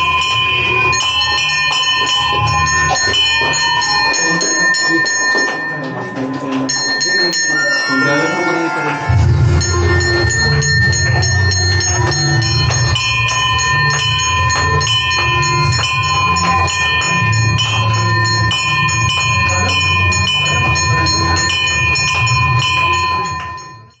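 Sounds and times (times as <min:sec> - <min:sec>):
bells ringing with metallic clanging: 0:00.0 - 0:24.0.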